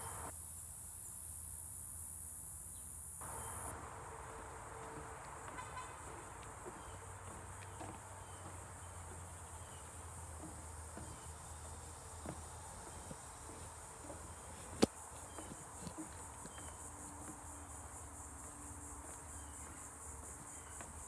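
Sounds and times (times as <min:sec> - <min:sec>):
insects buzzing: 0:00.0 - 0:21.0
footsteps on wooden boardwalk: 0:03.7 - 0:21.0.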